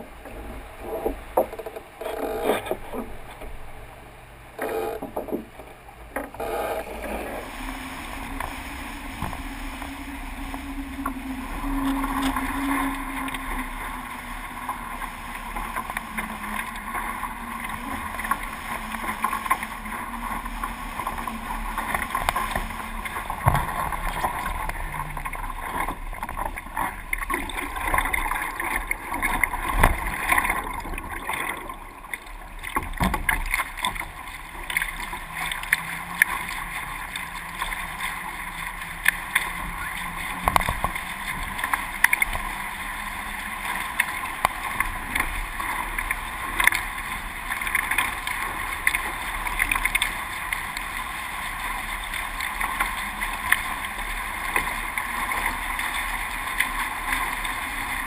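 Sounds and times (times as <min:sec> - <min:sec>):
water splashing against boat hulls: 0:00.0 - 0:58.0.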